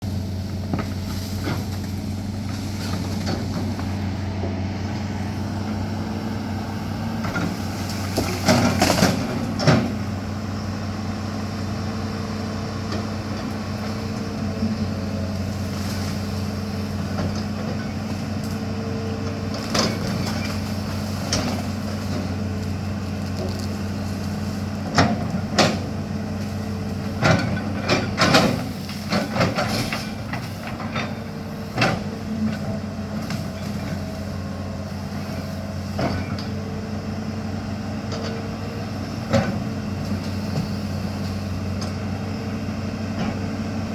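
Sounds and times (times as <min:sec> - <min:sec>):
diesel engine running: 0:00.0 - 0:43.9
trees cracking and crashing: 0:00.1 - 0:04.2, 0:04.8 - 0:36.6.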